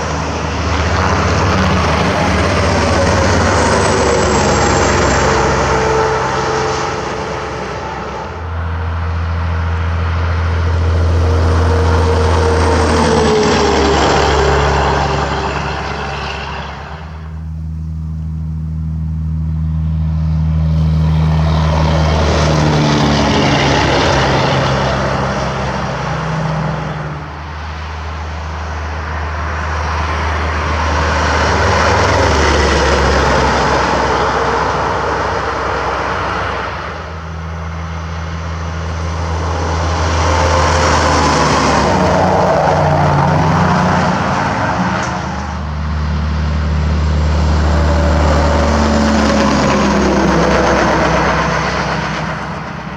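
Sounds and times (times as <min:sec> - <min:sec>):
trucks passing on highway: 0:00.0 - 0:52.9.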